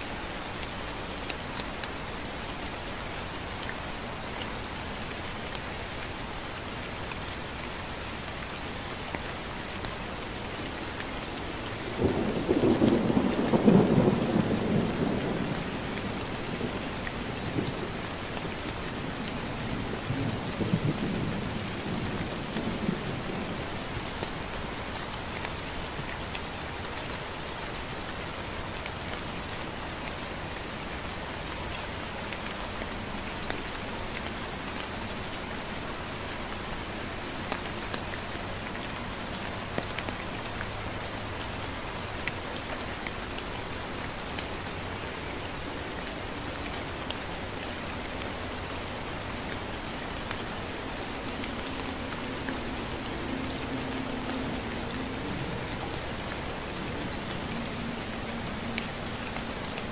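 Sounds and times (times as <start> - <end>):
light rain hissing: 0.0 - 59.9.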